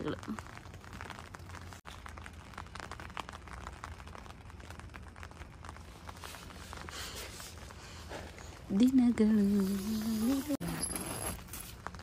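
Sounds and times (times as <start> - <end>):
light rain patter: 0.0 - 12.0.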